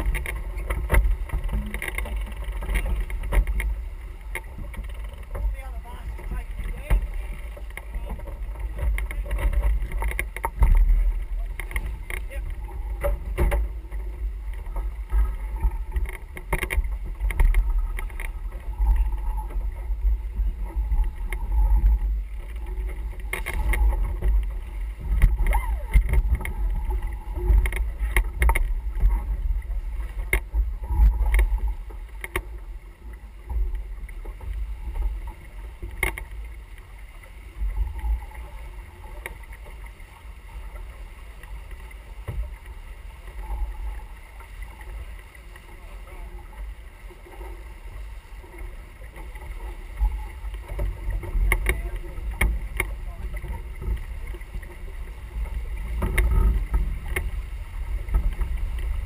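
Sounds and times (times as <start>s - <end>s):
water rushing along hull: 0.0s - 59.0s
wind rumble on microphone: 0.0s - 59.0s.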